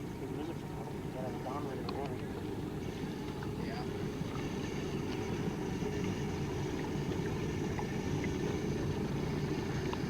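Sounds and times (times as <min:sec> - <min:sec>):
outboard motor rumbling: 0:00.0 - 0:10.0.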